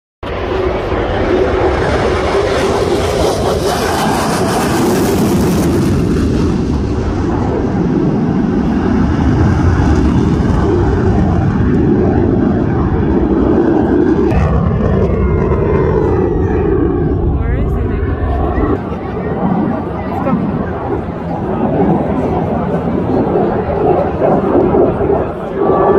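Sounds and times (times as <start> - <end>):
fighter jet engine roar: 0.2 - 25.9.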